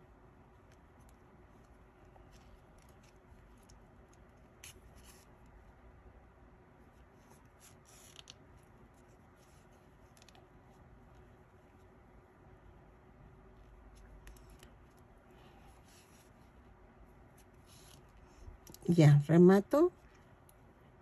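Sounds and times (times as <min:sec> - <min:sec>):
yarn rustling through stitches: 0:00.0 - 0:21.0.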